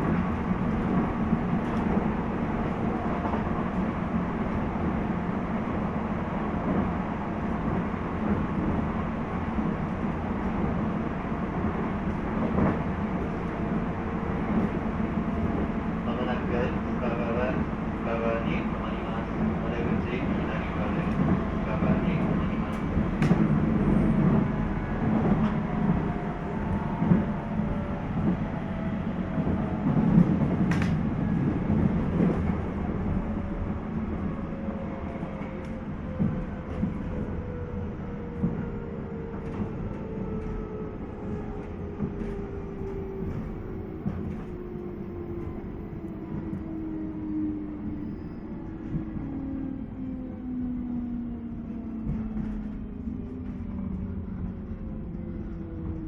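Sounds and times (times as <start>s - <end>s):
rail joint clicks: 0.0s - 49.4s
electric train running rumble: 0.0s - 56.0s.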